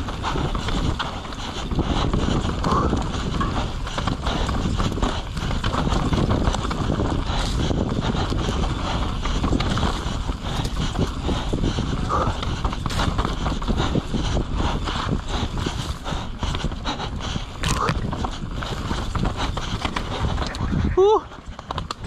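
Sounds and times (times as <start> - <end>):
rhythmic knocks and rattles: 0.0 - 20.8
wind buffeting microphone: 0.0 - 22.0.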